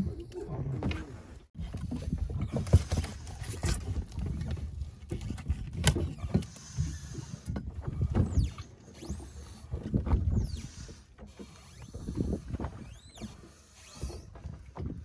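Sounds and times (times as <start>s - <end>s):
water washing against hull: 0.0s - 15.0s.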